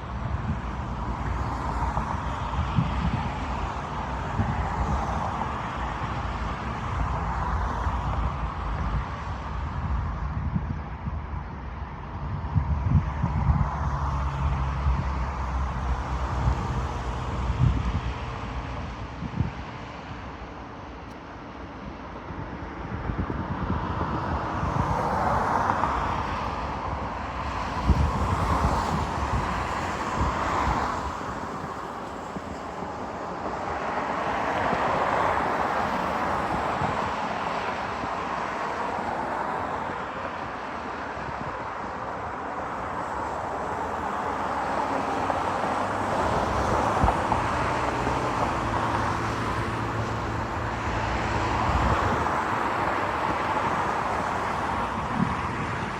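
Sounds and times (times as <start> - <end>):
low traffic rumble: 0.0 - 55.9
vehicles passing: 0.0 - 55.9.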